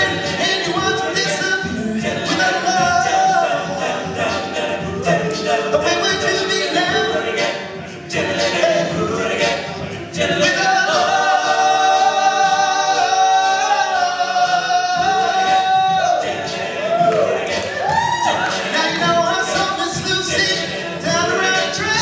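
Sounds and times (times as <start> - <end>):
male a cappella group singing: 0.0 - 22.0.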